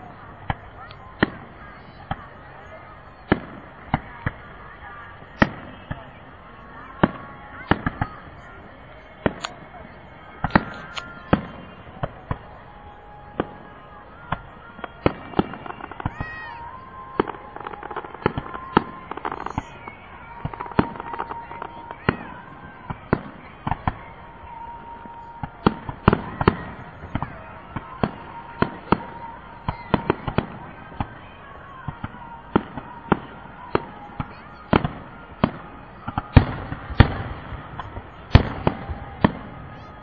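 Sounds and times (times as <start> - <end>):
fireworks bangs and pops: 0.0 - 40.0.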